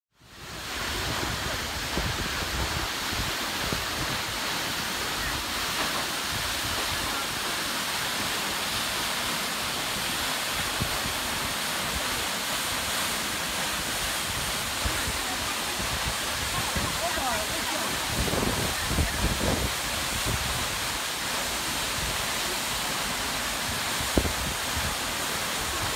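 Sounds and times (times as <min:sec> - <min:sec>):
waterfall rushing onto rocks: 0:00.2 - 0:25.9.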